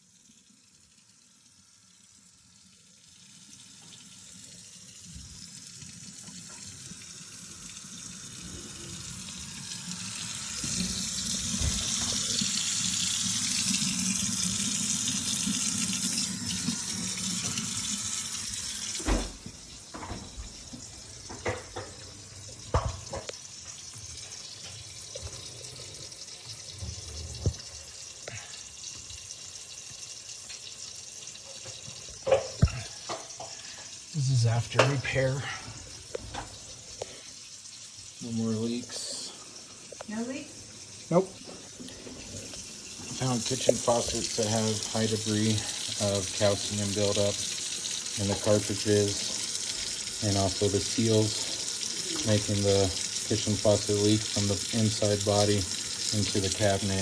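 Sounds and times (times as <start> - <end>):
faucet water running into sink: 0.0 - 57.0.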